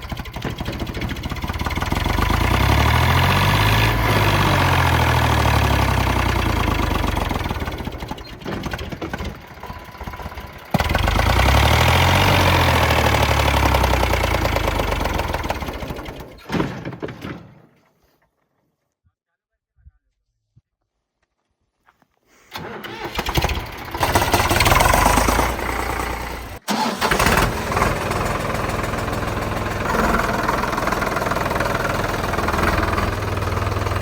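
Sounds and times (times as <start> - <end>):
tractor engine revving: 0.0 - 16.4, 22.6 - 34.0.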